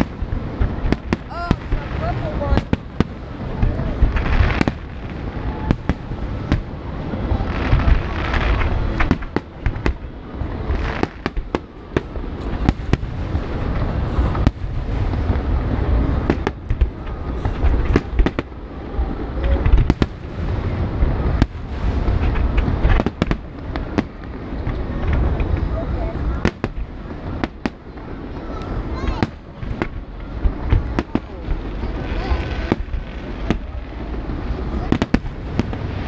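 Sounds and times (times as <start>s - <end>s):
fireworks booming: 0.0s - 36.0s
fireworks cracking: 0.0s - 36.0s.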